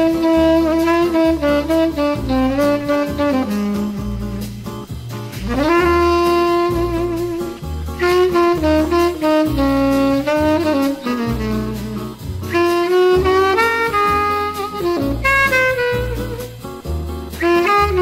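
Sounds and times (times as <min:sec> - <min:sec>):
repeating bass line: 0:00.0 - 0:18.0
tenor saxophone solo: 0:00.0 - 0:18.0.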